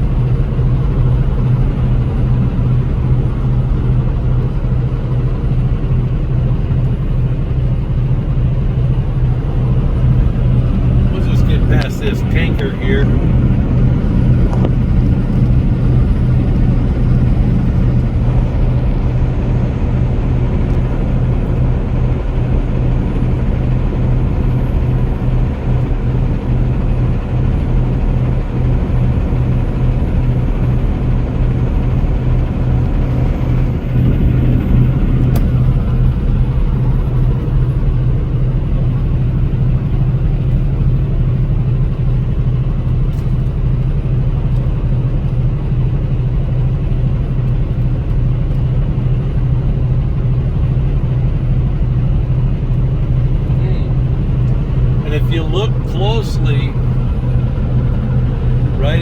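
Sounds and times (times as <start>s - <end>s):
road and wind noise: 0.0s - 59.0s
vehicle engine drone: 0.0s - 59.0s.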